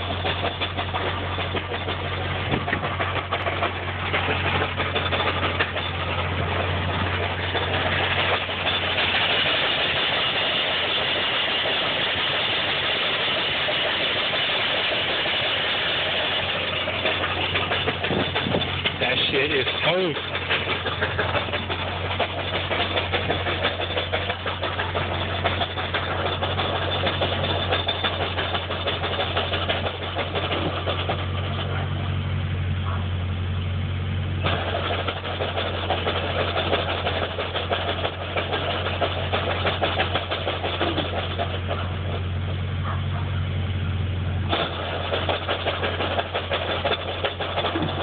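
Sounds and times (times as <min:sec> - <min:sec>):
car engine idling: 0:00.0 - 0:48.0
rattly whirring noise: 0:00.0 - 0:48.0.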